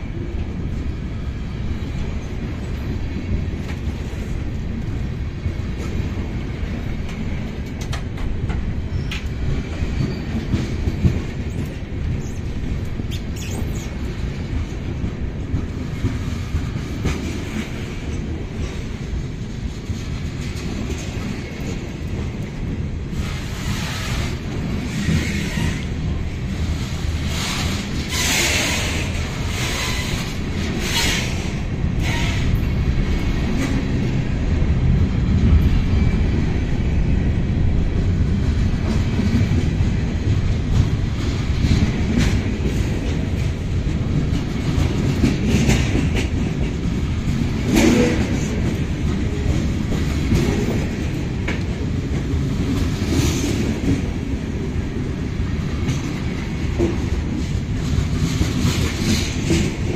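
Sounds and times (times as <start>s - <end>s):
clickety-clack over rail joints: 0.0s - 59.9s
train wheels rumbling on rail: 0.0s - 59.9s.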